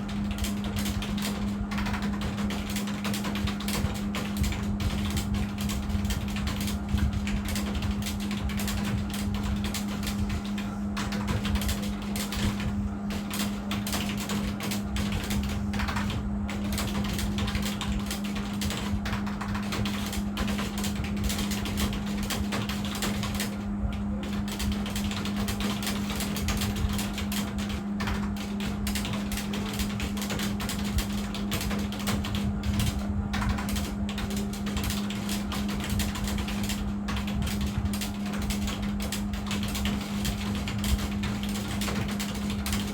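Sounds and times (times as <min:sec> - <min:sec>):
fast keyboard typing: 0:00.0 - 0:42.9
steady low hum: 0:00.0 - 0:42.9.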